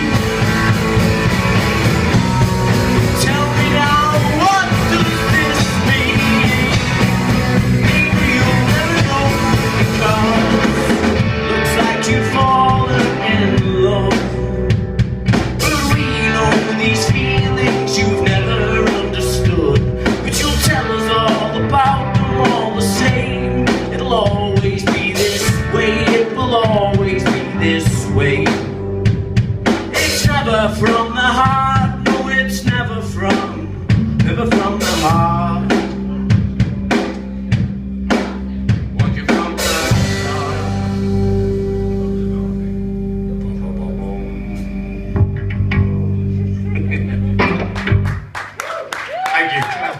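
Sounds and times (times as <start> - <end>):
live rock band playing: 0.0 - 49.8.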